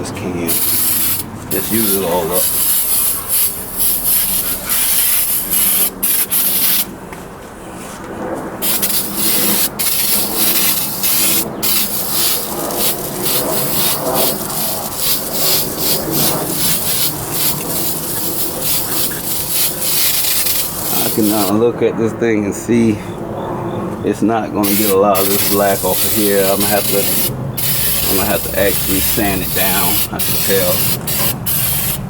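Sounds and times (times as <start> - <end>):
aerosol can spraying: 0.5 - 6.9, 8.6 - 21.5, 24.6 - 32.0
rhythmic rubbing strokes: 0.5 - 6.9, 8.6 - 21.6, 24.6 - 32.0.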